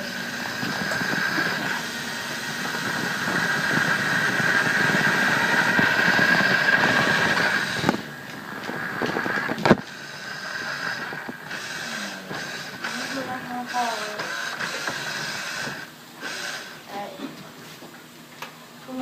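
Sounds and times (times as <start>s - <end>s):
toy truck electric motor whining: 0.0s - 8.0s, 8.7s - 16.8s.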